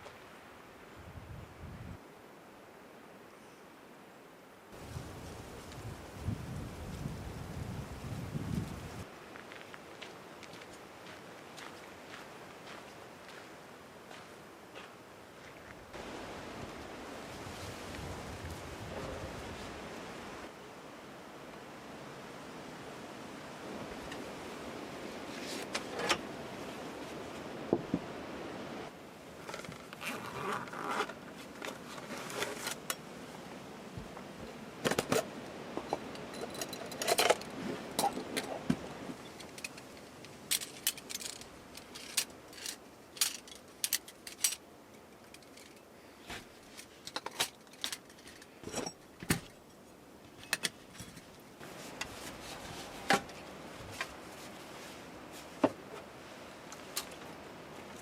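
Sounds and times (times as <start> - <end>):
faint background hiss: 0.0 - 58.0.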